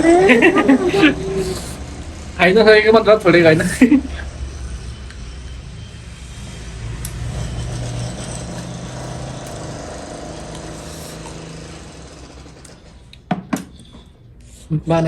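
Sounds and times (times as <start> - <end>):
vehicle engine passing: 0.0 - 13.3.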